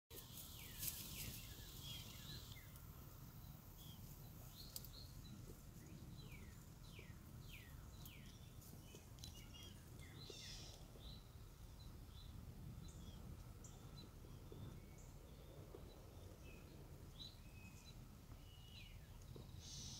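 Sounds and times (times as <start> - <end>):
low outdoor rumble: 0.1 - 19.9
bird chirps: 0.4 - 2.8, 3.4 - 19.9.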